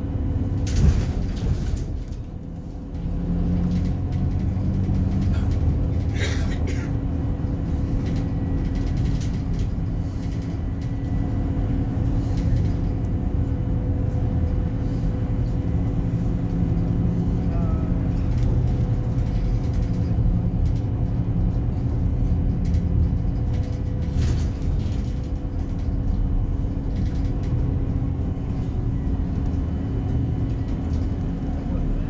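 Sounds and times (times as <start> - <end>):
bus diesel engine droning: 0.0 - 32.0.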